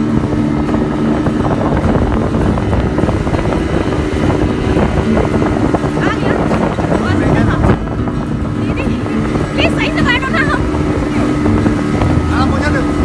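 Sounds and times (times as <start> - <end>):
motorboat engine droning: 0.0 - 13.0
wind buffeting microphone: 0.0 - 13.0.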